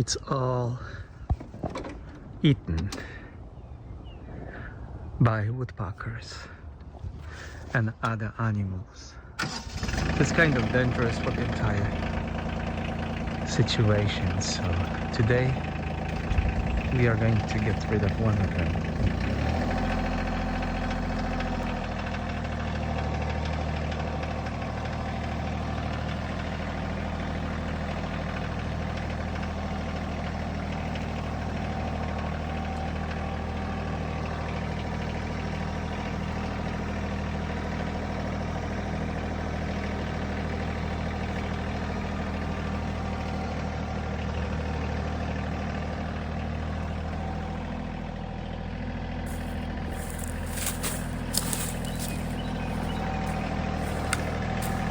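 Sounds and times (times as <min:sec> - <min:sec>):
engine idling: 0:09.4 - 0:54.9.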